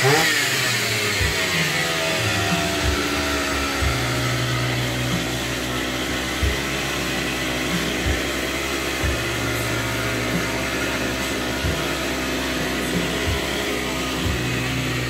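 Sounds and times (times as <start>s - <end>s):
small engine buzzing: 0.0s - 15.0s.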